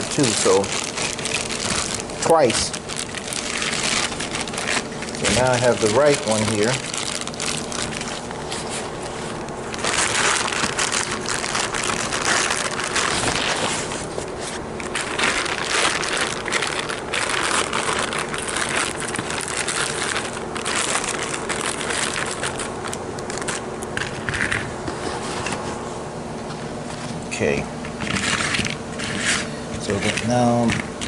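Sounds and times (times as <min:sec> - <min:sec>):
faint steady hum: 0:00.0 - 0:31.0
rustling and crinkling: 0:00.0 - 0:31.0.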